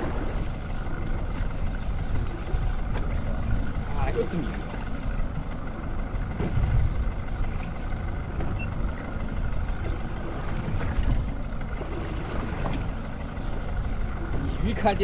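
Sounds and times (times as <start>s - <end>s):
boat engine rumble: 0.0s - 15.0s
water noise: 0.0s - 15.0s
wind: 0.0s - 15.0s.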